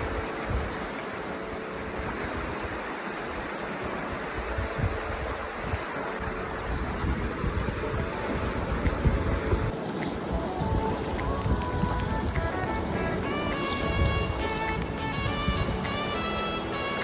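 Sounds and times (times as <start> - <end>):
river water rushing: 0.0 - 17.0
wind buffeting microphone: 0.0 - 17.0.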